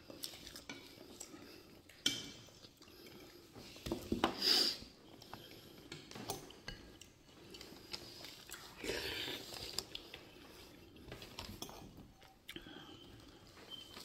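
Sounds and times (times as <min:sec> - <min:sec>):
quiet eating sounds: 0:00.0 - 0:14.0.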